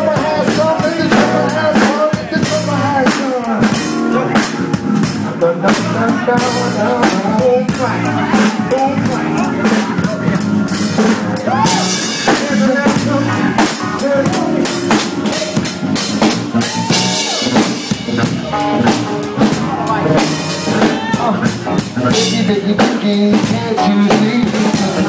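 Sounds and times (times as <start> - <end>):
drum kit groove: 0.0 - 25.0
live band jamming: 0.0 - 25.0.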